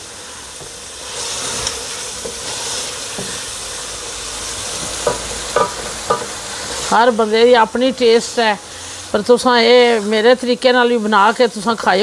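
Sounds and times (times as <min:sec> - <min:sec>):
curry sizzling in hot oil: 0:00.0 - 0:12.0.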